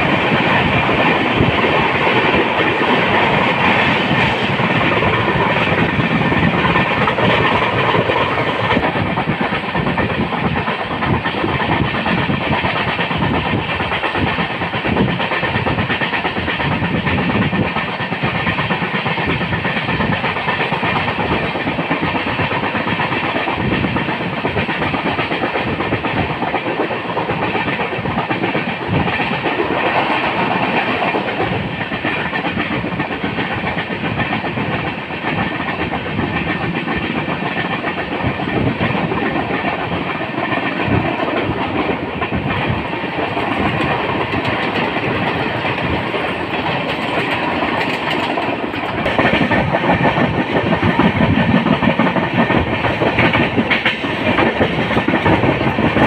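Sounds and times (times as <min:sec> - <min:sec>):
passenger train rumbling: 0:00.0 - 0:56.0.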